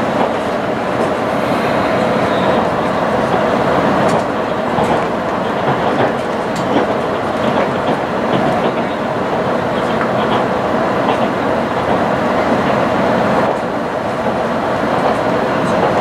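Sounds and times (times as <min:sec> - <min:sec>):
train wheels rolling on rail: 0:00.0 - 0:16.0.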